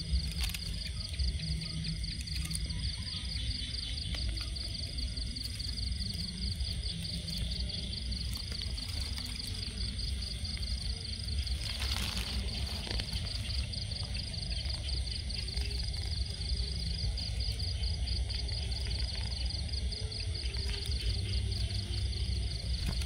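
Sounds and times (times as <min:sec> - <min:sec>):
cricket chirping: 0:00.0 - 0:23.0
steady low rumble: 0:00.0 - 0:23.0.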